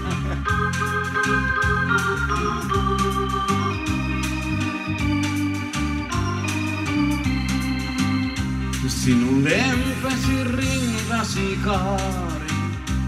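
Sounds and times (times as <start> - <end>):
electronic organ keyboard music: 0.0 - 13.0
pulsing bass line: 0.0 - 13.0.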